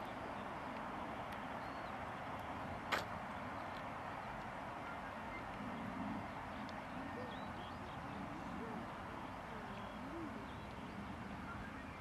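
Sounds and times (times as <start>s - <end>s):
bird calls: 0.0s - 12.0s
distant jet engines: 0.0s - 12.0s.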